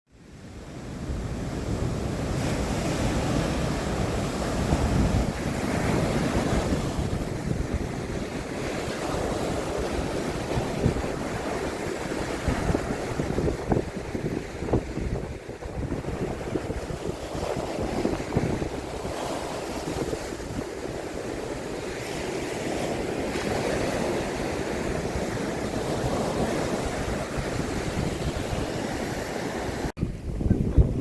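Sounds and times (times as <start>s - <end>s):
sea surf breaking on beach: 0.2s - 31.0s
wind buffeting microphone: 0.7s - 31.0s.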